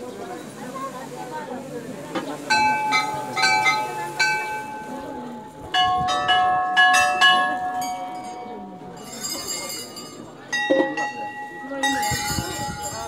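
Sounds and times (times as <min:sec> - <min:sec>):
bells struck by hand: 0:02.5 - 0:13.0.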